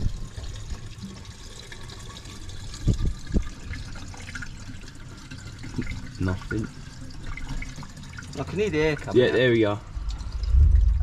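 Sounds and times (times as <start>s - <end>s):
water running into radiator: 0.0s - 11.0s.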